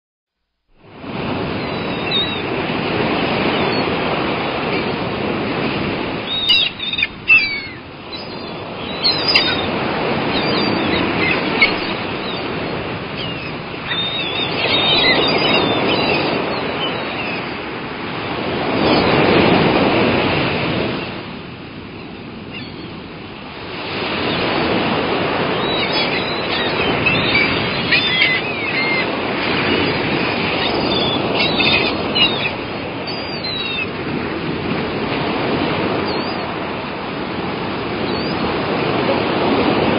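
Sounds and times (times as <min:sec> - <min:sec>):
surf waves: 0:00.7 - 0:39.9
seagulls calling: 0:01.1 - 0:19.5, 0:22.0 - 0:23.0, 0:23.7 - 0:36.7, 0:37.6 - 0:39.9.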